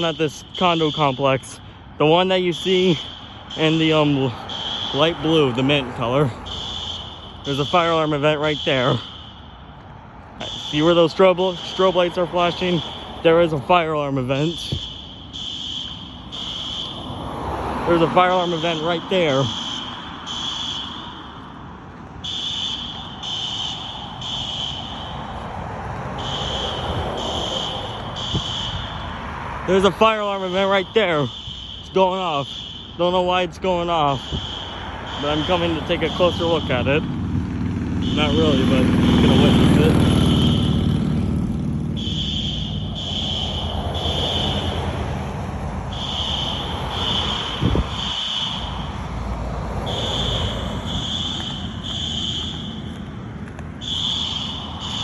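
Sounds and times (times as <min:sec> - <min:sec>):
fire alarm horn blasts: 0:00.0 - 0:37.2, 0:37.9 - 0:41.3, 0:41.9 - 0:49.2, 0:49.8 - 0:55.0.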